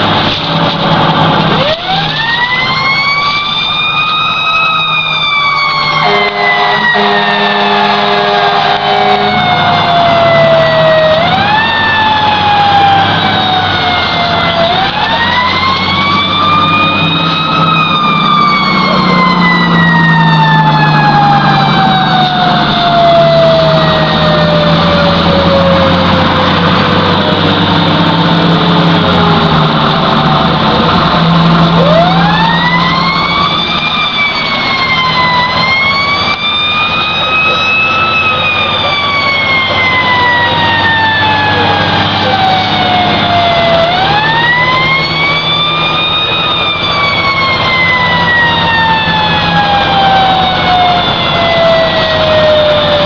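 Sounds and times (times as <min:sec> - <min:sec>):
fire engine siren wailing: 0:00.0 - 0:53.0
truck engine running: 0:00.0 - 0:53.0.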